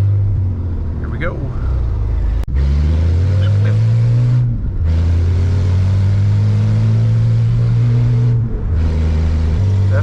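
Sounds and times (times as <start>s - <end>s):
truck engine and exhaust droning: 0.0s - 10.0s.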